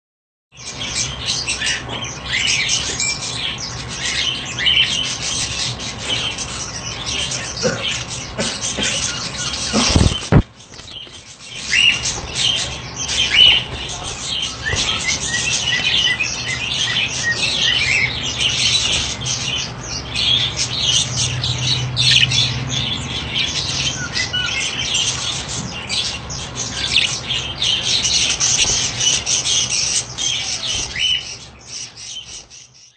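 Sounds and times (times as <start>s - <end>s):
budgerigars chirping: 0.6s - 32.9s.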